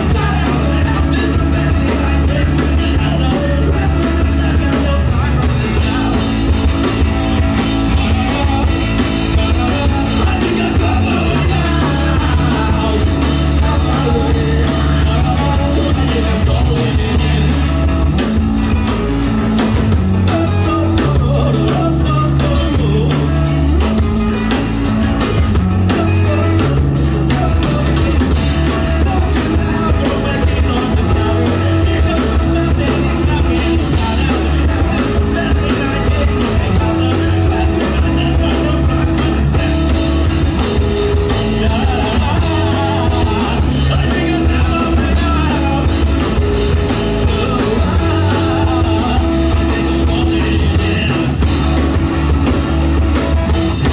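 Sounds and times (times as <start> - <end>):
person singing: 0.0 - 18.3, 20.2 - 23.7, 25.8 - 52.4
drum kit: 0.0 - 53.9
guitar: 0.0 - 53.9.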